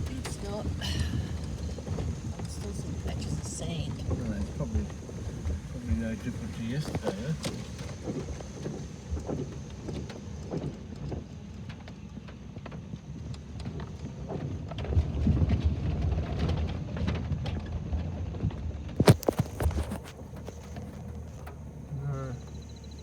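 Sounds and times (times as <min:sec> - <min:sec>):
vehicle rumbling on dirt road: 0:00.0 - 0:23.0.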